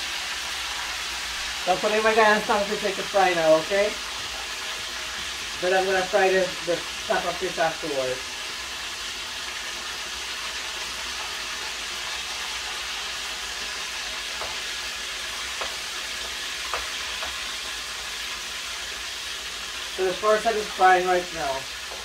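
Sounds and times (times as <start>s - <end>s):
oil sizzling in a frying pan: 0.0s - 22.0s.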